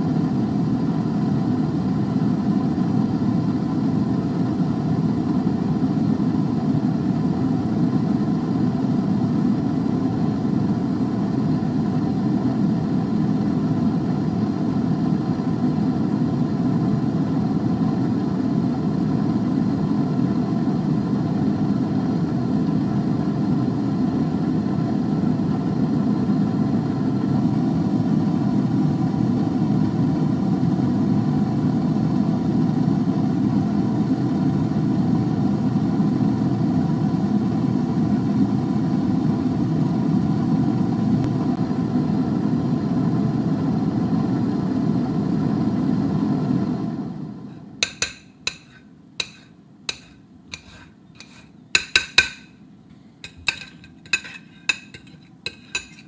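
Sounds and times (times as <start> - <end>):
air fryer fan running: 0.0 - 56.0.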